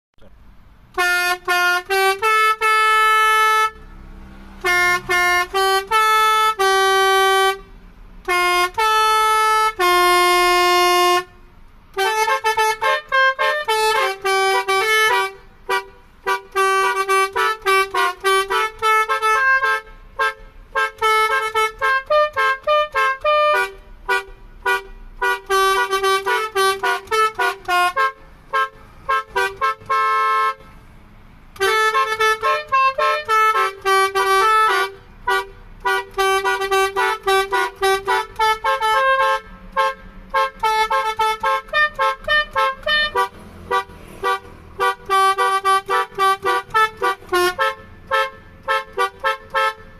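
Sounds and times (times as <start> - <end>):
multi-tone horn playing a tune: 0.9 - 3.8, 4.5 - 30.7, 31.6 - 49.9.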